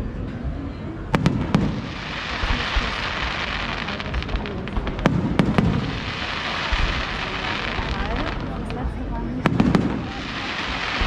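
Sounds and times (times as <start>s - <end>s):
firework bangs and booms: 1.1s - 11.0s
fireworks crackling: 1.1s - 11.0s.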